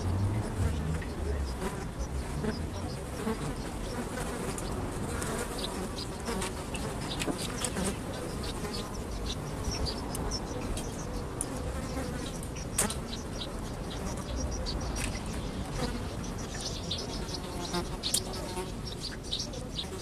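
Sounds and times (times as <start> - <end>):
flies buzzing: 0.0 - 20.0.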